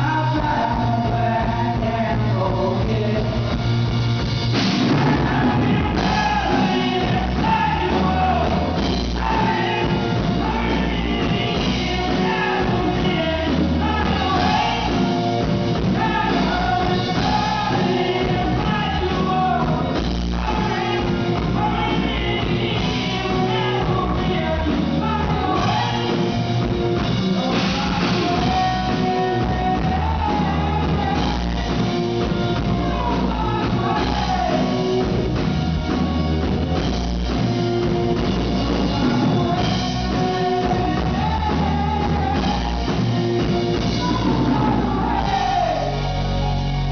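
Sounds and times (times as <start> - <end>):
man singing into microphone: 0.0 - 3.6, 4.8 - 15.1, 15.8 - 26.4, 27.4 - 31.8, 32.6 - 35.0, 38.6 - 43.1, 43.8 - 46.2
rock band playing: 0.0 - 46.9.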